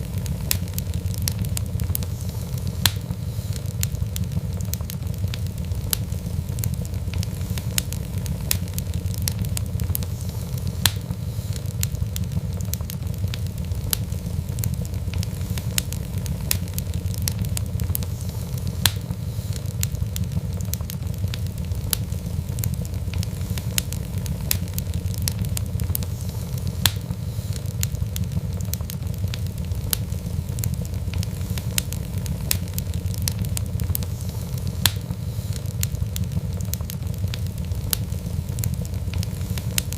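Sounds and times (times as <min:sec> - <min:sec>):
fire crackling and popping: 0:00.0 - 0:39.9
steady low rumble: 0:00.0 - 0:39.9.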